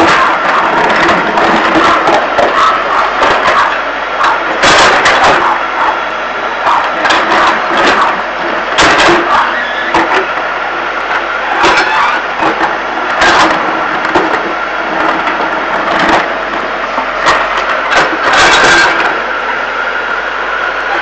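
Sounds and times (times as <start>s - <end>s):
loud knocks and scrapes: 0.0s - 6.0s, 6.6s - 10.3s, 11.1s - 19.2s
backhoe diesel engine whining: 0.0s - 21.0s.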